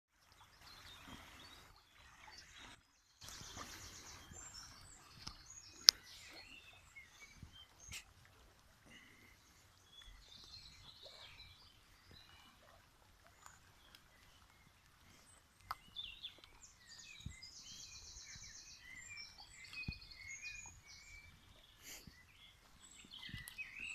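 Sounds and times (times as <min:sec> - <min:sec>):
small birds chirping: 0:00.2 - 0:23.9.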